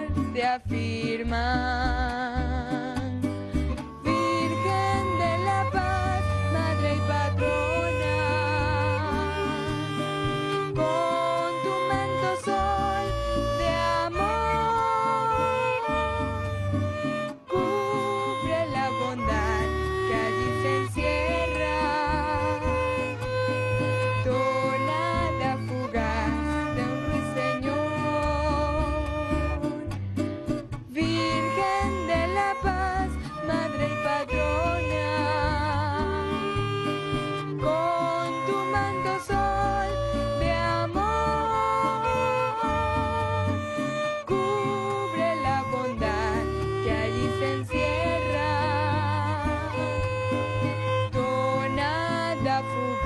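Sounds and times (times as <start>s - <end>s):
woman singing with vibrato: 0.0s - 30.0s, 30.8s - 53.0s
bass line: 0.0s - 53.0s
plucked guitar chords: 0.0s - 53.0s
small string ensemble: 0.0s - 53.0s
violins and cello melody: 0.0s - 53.0s.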